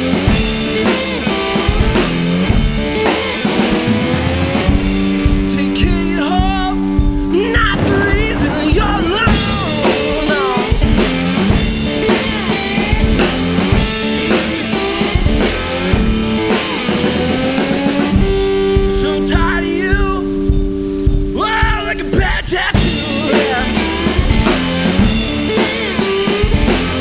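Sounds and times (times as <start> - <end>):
drum kit: 0.0 - 27.0
electric guitar bending notes: 0.0 - 27.0.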